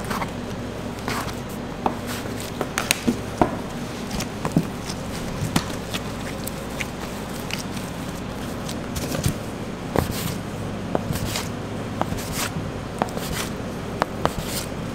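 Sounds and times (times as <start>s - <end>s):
scraper cutting dough: 0.0s - 2.6s, 3.9s - 9.4s, 10.0s - 10.4s, 11.0s - 14.8s
background hum: 0.0s - 14.9s.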